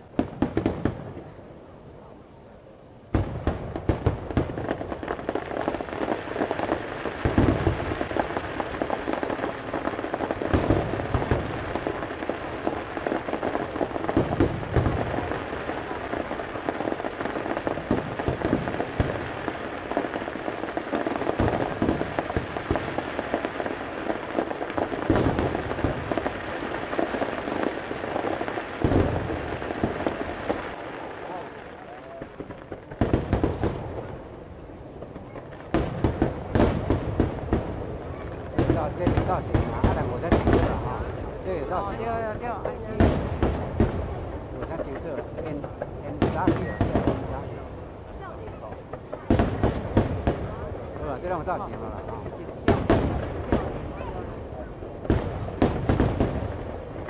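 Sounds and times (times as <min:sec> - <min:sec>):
deep firework booms: 0:00.0 - 0:01.4, 0:03.1 - 0:57.0
fireworks crackling: 0:00.0 - 0:02.1, 0:02.7 - 0:57.0
firework bang: 0:03.1 - 0:34.2, 0:34.9 - 0:57.0.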